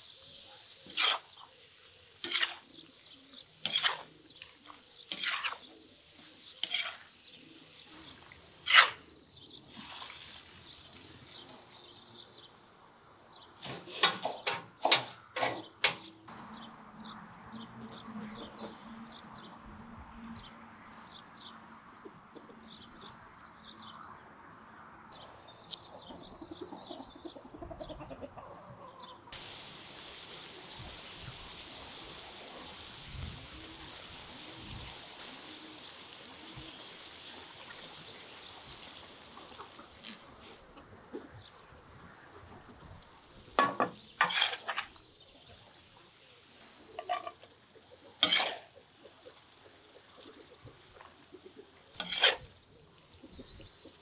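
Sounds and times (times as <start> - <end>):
chickens chirping: 0.0 - 19.4, 25.2 - 54.0
small birds chirping: 0.0 - 19.6, 25.1 - 54.0.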